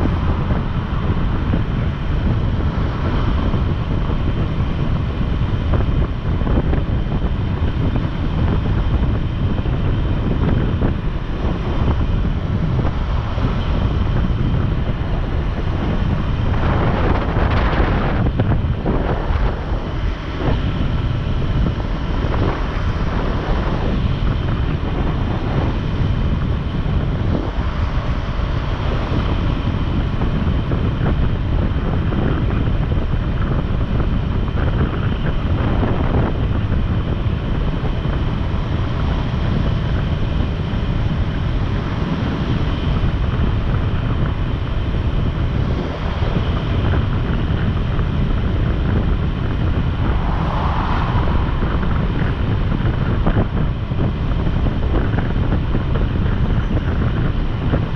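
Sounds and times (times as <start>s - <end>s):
road noise: 0.0s - 57.9s
wind buffeting microphone: 0.0s - 57.9s.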